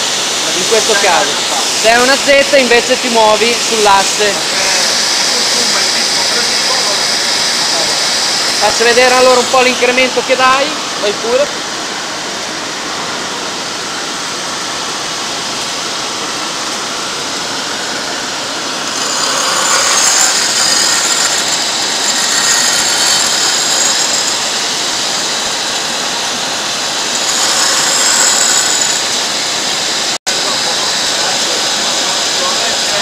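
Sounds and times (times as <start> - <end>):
grinder grinding: 0.0 - 11.6, 16.7 - 33.0.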